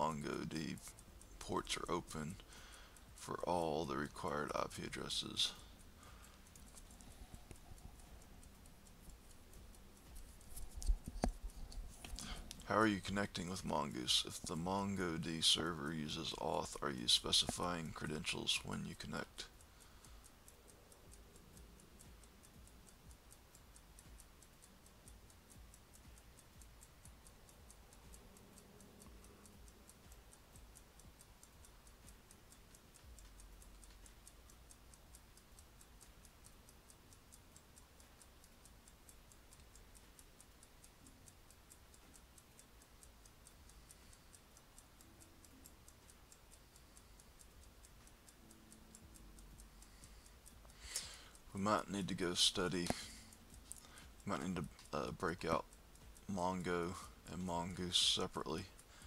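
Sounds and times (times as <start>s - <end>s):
steady regular ticking: 0.0s - 59.0s.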